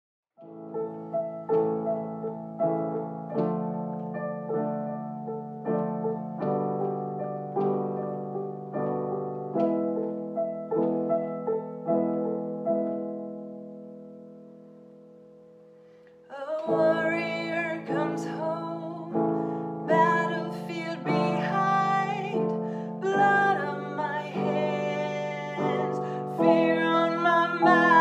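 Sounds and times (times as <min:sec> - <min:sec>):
gentle solo piano: 0:00.4 - 0:28.0.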